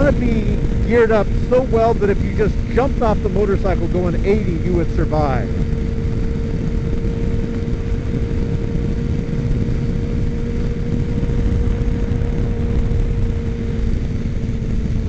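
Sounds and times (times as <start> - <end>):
motorcycle engine cruising: 0.0 - 15.0
wind rumble: 0.0 - 15.0.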